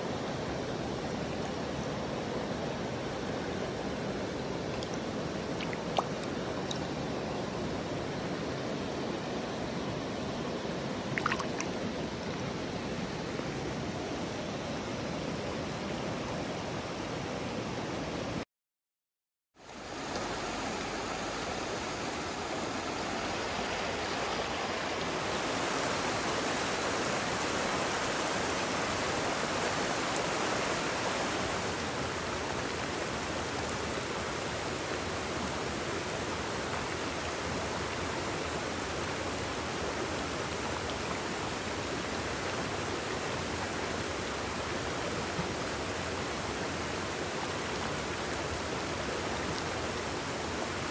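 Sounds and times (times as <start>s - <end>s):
water rushing over rocks: 0.3s - 8.0s, 10.8s - 13.9s, 19.7s - 50.9s.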